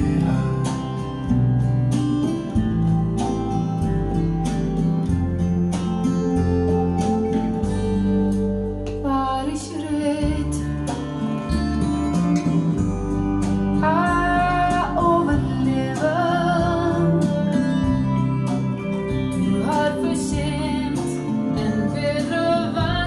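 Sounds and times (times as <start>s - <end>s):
song over loudspeakers: 0.0s - 23.0s.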